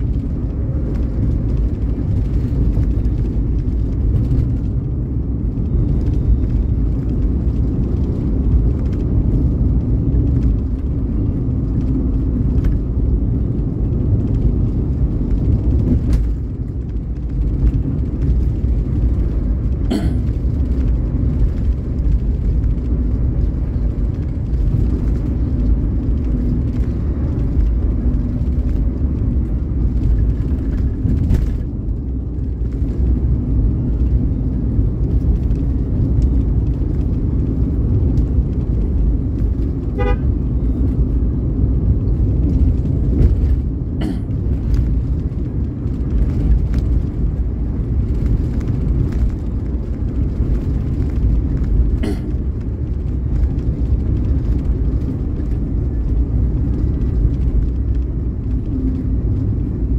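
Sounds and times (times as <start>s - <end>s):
vehicle rumbling along road: 0.0s - 59.9s.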